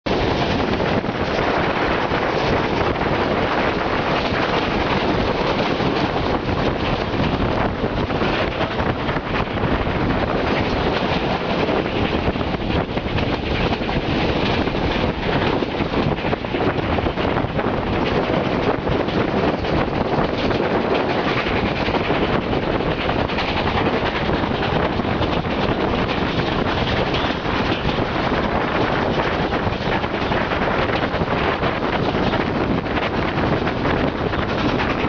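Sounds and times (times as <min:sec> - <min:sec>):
wind buffeting microphone: 0:00.0 - 0:35.0
steam locomotive working hard: 0:00.1 - 0:35.0.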